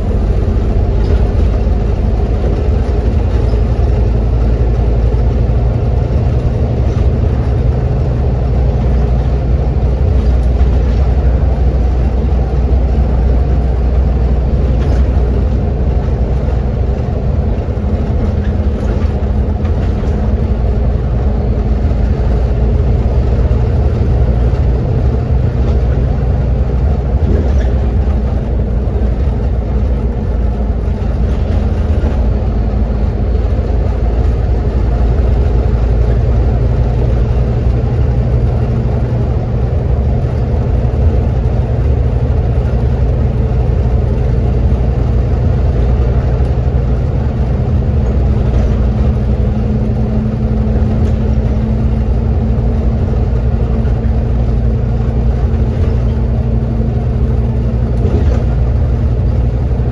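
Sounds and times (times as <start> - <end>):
bus diesel engine droning: 0.0 - 59.9
road and tyre noise: 0.0 - 59.9.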